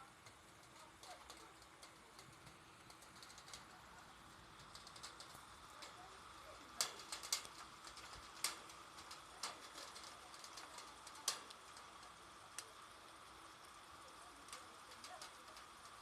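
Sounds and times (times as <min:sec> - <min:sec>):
light rain hiss: 0:00.0 - 0:16.0
raindrops tapping hard surface: 0:00.0 - 0:16.0.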